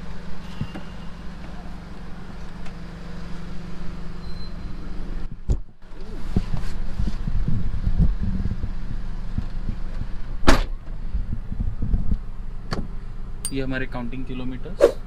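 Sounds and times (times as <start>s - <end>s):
car engine: 0.0s - 15.0s
low hum of traffic: 0.0s - 15.0s.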